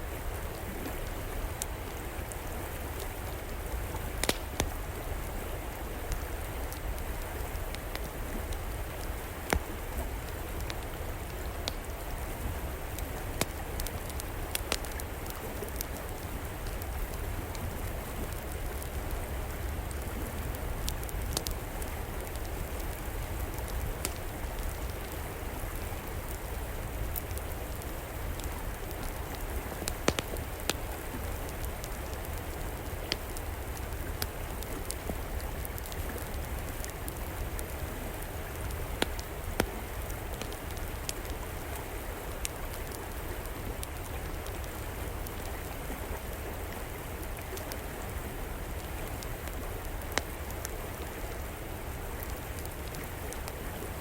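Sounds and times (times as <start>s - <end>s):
wood fire crackling and popping: 0.8s - 12.2s, 12.8s - 46.4s, 47.4s - 47.8s, 48.5s - 50.8s.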